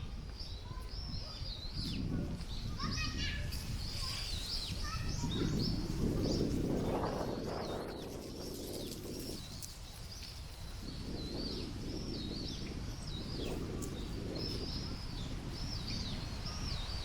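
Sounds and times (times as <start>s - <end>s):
birds calling: 0.0s - 17.0s
wind rumbling on microphone: 0.0s - 17.0s.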